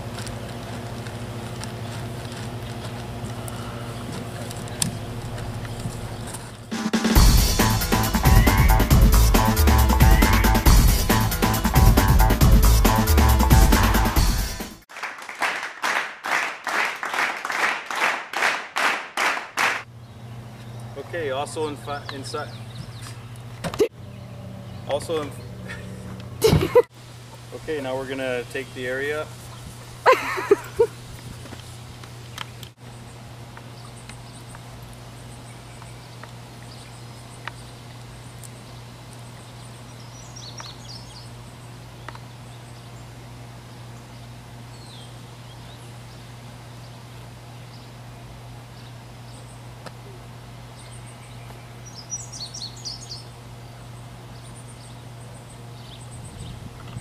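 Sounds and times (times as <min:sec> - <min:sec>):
steady low hum: 0:00.0 - 0:14.5, 0:19.8 - 0:57.0
birds chirping: 0:00.3 - 0:11.3, 0:19.9 - 0:57.0.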